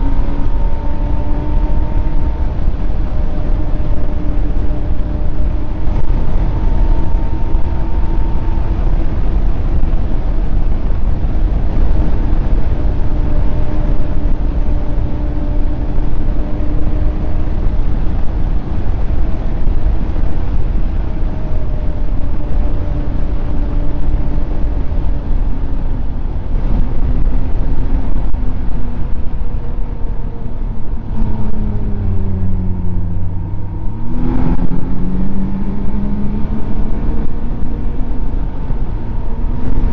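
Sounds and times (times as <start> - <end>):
snowmobile engine running: 0.0 - 39.9
track and wind noise: 0.0 - 39.9.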